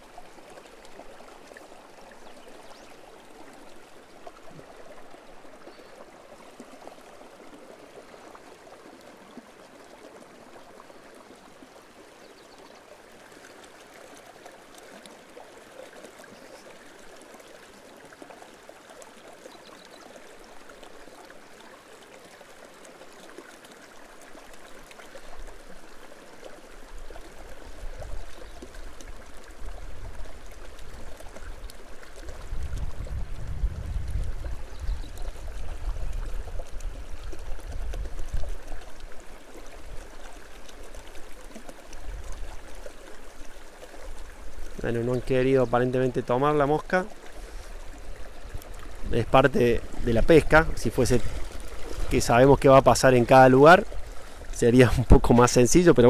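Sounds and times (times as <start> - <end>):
river water running: 0.0 - 56.0.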